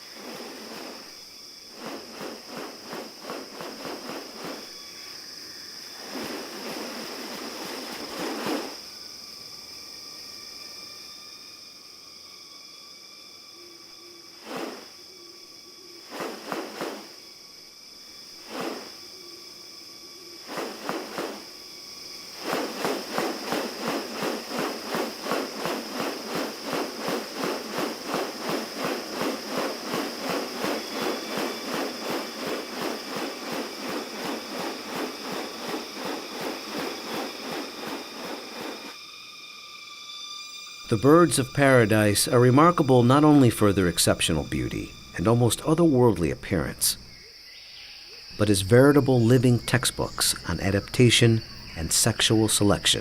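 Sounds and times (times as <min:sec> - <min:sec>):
fast pulsing insect rasp: 0:00.0 - 0:53.0
high-pitched insect drone: 0:00.0 - 0:53.0
short insect rasping bursts: 0:00.0 - 0:53.0.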